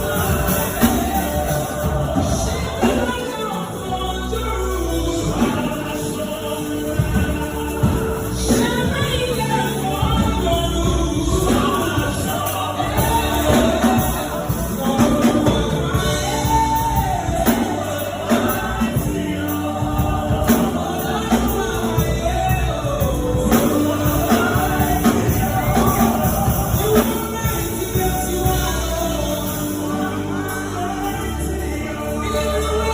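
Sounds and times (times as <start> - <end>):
band with percussion: 0.0 - 32.9
voices singing gospel music: 0.0 - 32.9.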